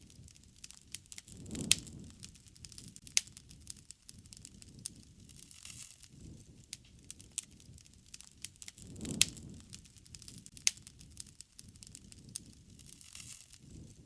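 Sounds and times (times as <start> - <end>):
campfire crackling and popping: 0.0 - 14.0
flames rushing: 0.0 - 14.0.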